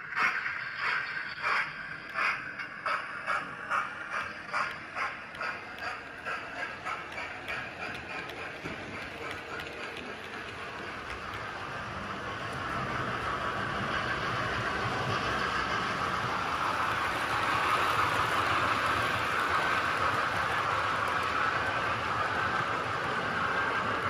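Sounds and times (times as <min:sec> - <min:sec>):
model train wheels whirring: 0:00.0 - 0:24.0.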